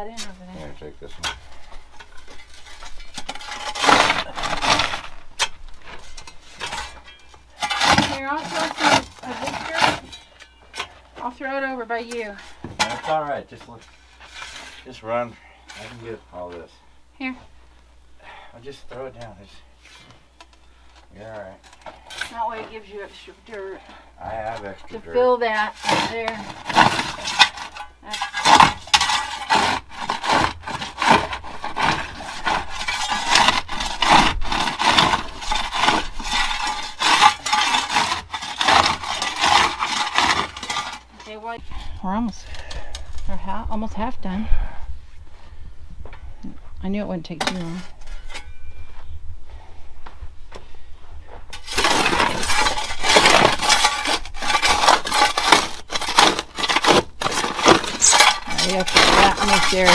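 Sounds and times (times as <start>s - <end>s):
shovels scraping dry dirt: 0.0s - 17.4s, 18.6s - 44.4s, 47.3s - 49.7s, 50.6s - 59.9s.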